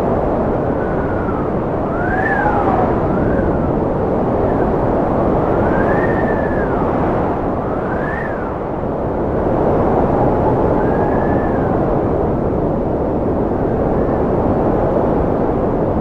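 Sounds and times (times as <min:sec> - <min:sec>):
strong wind howling: 0:00.0 - 0:16.0.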